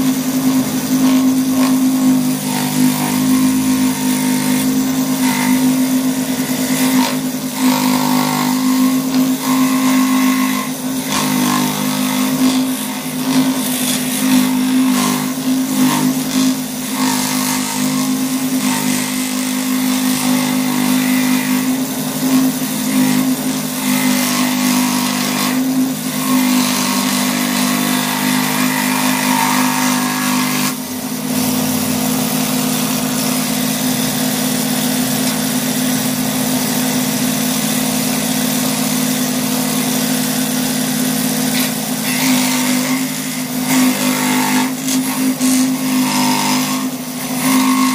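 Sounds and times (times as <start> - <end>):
scroll saw cutting wood: 0.0 - 47.9.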